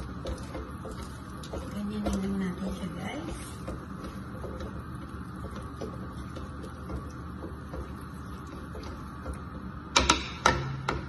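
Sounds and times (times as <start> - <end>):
broth simmering: 0.0 - 11.0
wooden utensils stirring noodles: 0.0 - 11.0.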